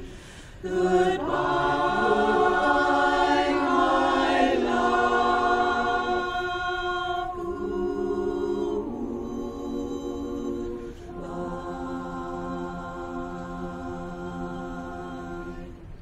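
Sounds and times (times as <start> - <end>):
women's chorus singing a cappella: 0.0 - 16.0.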